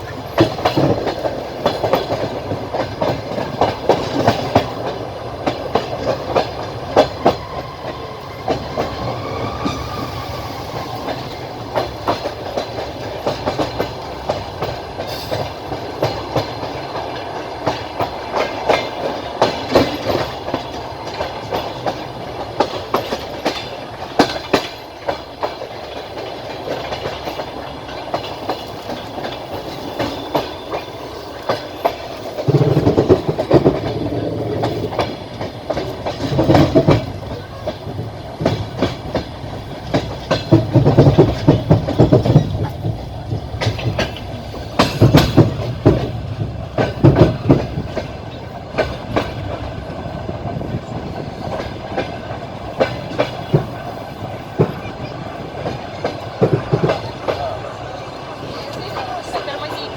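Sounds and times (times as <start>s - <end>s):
train running noise: 0.0s - 59.9s
wheels clacking over rail joints: 0.0s - 59.9s.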